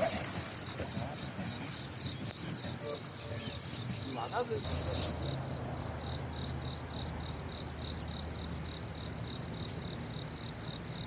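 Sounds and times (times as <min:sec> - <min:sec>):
insect chirping: 0:00.0 - 0:11.0
low outdoor rumble: 0:00.0 - 0:11.0.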